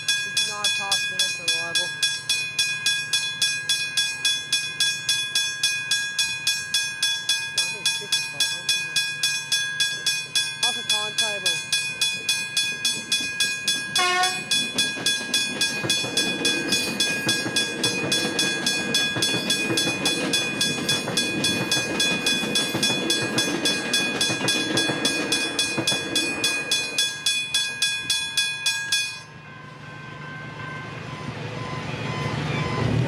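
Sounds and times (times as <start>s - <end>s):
level crossing bell ringing: 0.0s - 31.2s
train rumbling past: 0.0s - 33.0s.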